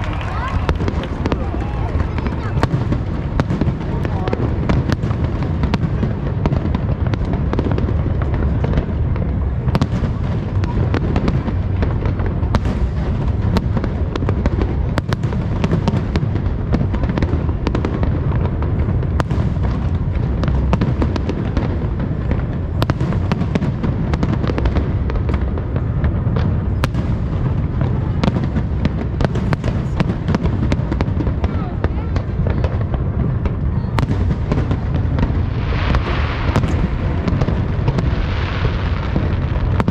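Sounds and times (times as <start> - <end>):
fireworks booming: 0.0 - 39.9
fireworks cracks and pops: 0.0 - 39.9.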